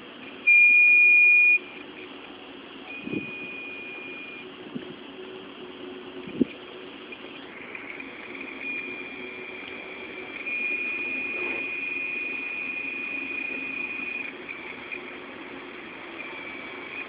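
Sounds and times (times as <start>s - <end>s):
hard drive high-pitched whine: 0.0s - 17.0s
low hum: 0.0s - 17.0s.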